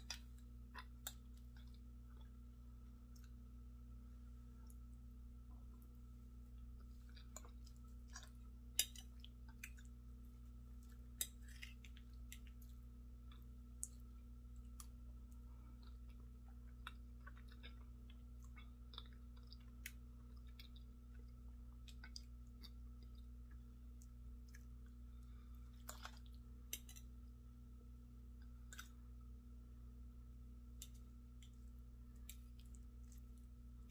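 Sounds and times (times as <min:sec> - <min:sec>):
person chewing food: 0:00.0 - 0:27.5, 0:30.6 - 0:33.9
low hum: 0:00.0 - 0:33.9.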